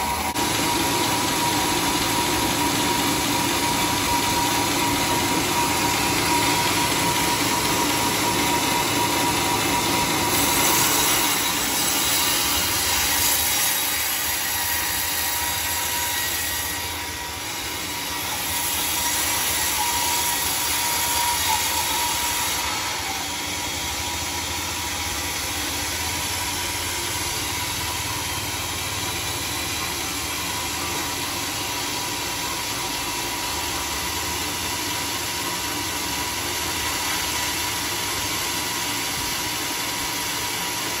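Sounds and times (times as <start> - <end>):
band sawmill running: 0.0 - 41.0.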